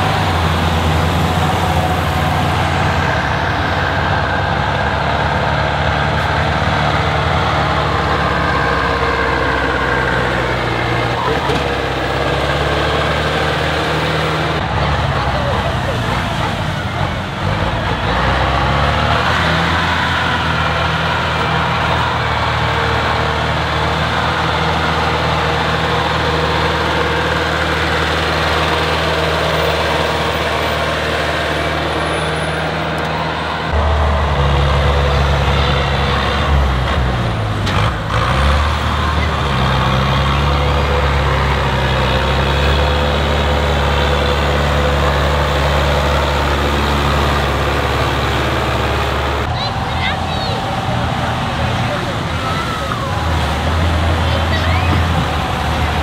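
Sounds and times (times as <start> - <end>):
low-pitched tractor engine: 0.0 - 56.0
skidder diesel engine pulling: 0.0 - 56.0.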